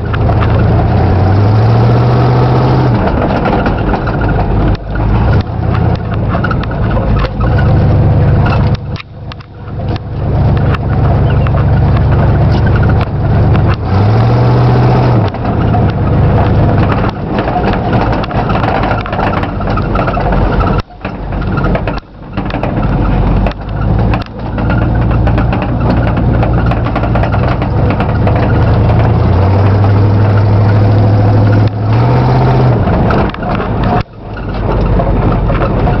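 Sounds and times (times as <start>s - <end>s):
truck engine accelerating: 0.0s - 36.0s.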